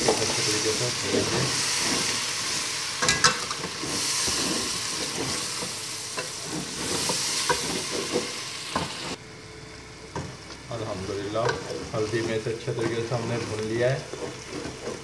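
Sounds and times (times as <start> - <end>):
meat sizzling in oil: 0.0 - 9.2, 9.8 - 15.0
spatula scraping a pot: 0.0 - 9.2, 11.3 - 15.0.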